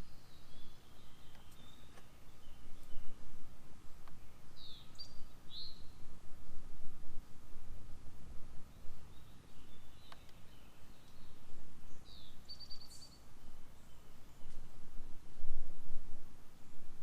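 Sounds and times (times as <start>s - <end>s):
steady low rumble: 0.0s - 12.5s, 13.2s - 17.0s
songbirds chirping: 0.0s - 17.0s.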